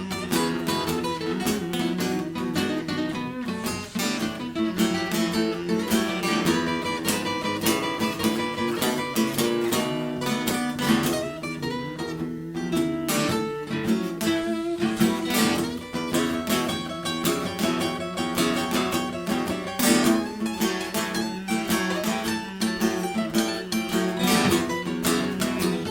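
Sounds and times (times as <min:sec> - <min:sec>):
acoustic guitar blues: 0:00.0 - 0:25.9.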